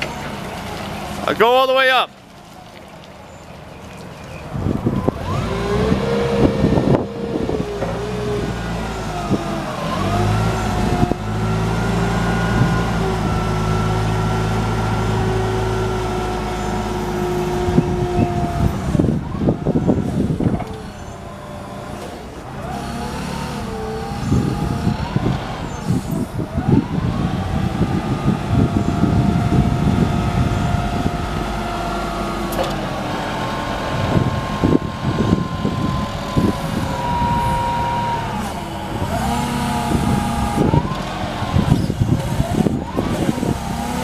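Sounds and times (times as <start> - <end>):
forklift engine revving with whine: 4.5 - 44.0.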